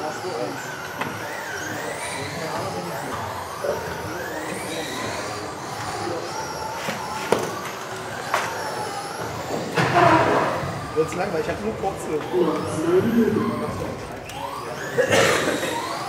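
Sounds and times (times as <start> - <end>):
rc car motors whining: 0.0 - 16.0.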